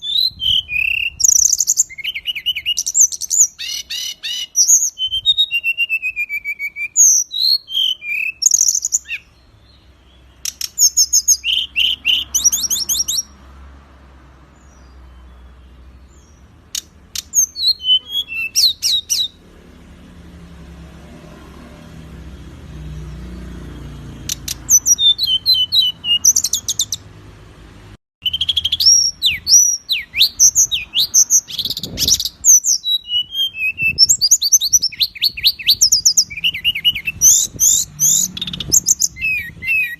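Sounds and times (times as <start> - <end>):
songbird chirps and trills: 0.0 - 27.3, 28.2 - 39.9.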